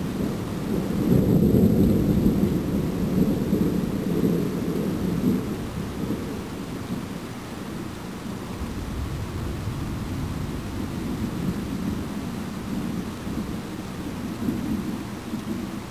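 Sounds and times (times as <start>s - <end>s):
thunder rumbling: 0.2s - 7.1s, 8.4s - 15.6s.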